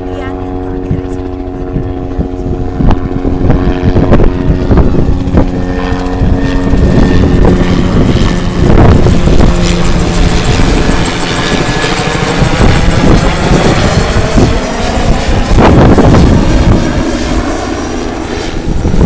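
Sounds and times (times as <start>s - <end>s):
helicopter flying overhead: 0.0s - 19.0s
turbine whine: 0.0s - 19.0s.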